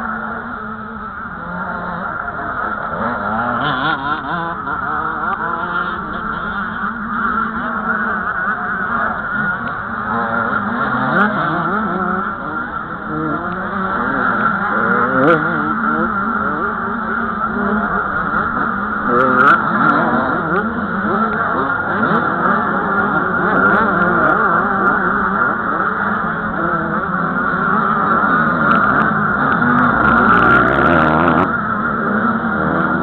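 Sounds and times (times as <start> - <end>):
motocross bikes revving: 0.0 - 33.0.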